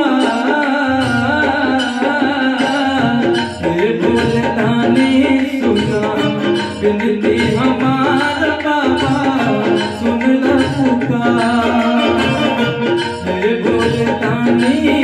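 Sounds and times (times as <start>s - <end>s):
keyed melody instrument: 0.0s - 15.0s
man singing: 0.0s - 15.0s
tabla-style rhythm loop: 0.0s - 15.0s.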